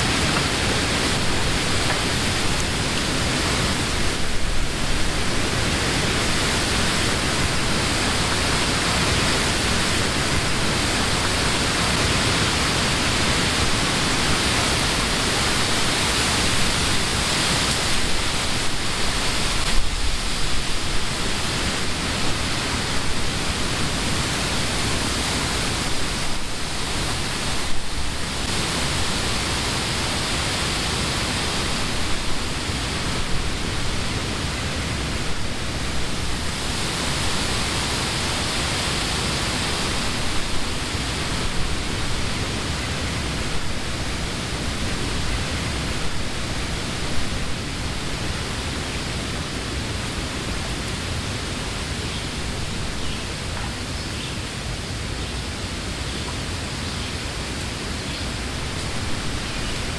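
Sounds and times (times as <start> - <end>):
wind rustling tree leaves: 0.0 - 59.9.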